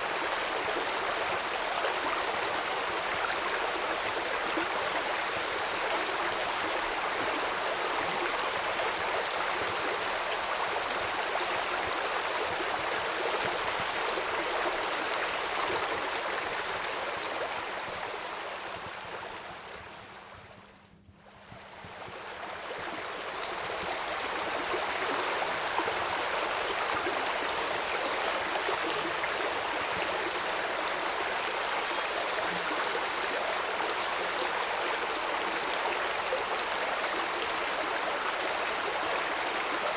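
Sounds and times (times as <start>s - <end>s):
flowing stream rushing: 0.0s - 19.7s, 22.1s - 39.9s.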